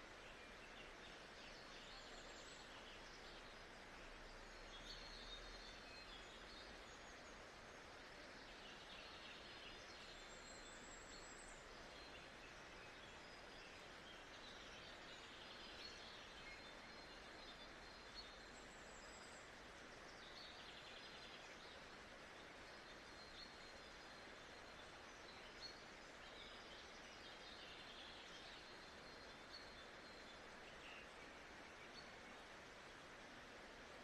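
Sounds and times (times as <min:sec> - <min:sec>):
soft steady hiss: 0:00.0 - 0:34.0.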